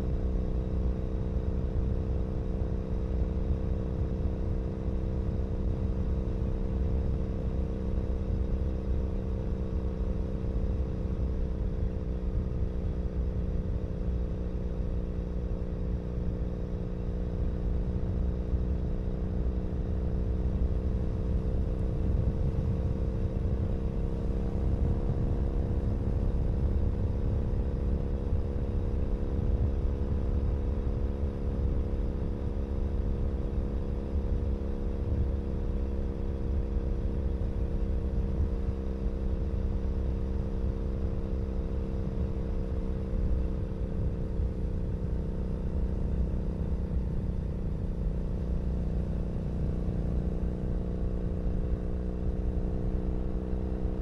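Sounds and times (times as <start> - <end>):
motorcycle exhaust rumble: 0.0 - 54.0.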